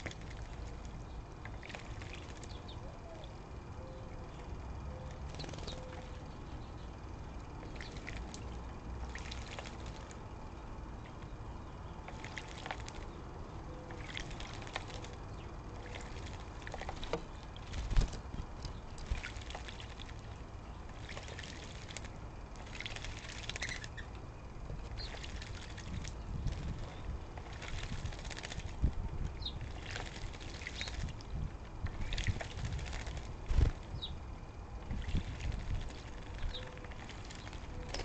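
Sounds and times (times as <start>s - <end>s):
birds splashing in water: 0.0s - 3.4s, 5.1s - 6.4s, 7.5s - 24.1s, 24.7s - 38.0s.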